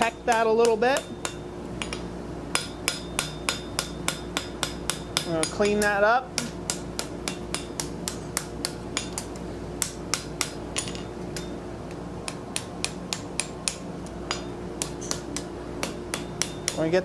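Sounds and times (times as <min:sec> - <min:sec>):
hammer striking steel on anvil: 0:00.0 - 0:11.6, 0:12.2 - 0:17.0
steady low hum: 0:00.0 - 0:17.0.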